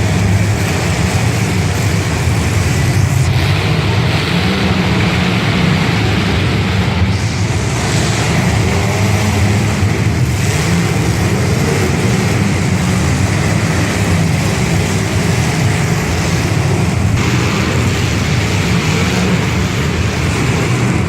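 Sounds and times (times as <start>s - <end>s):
car engines low rumble: 0.0s - 21.0s.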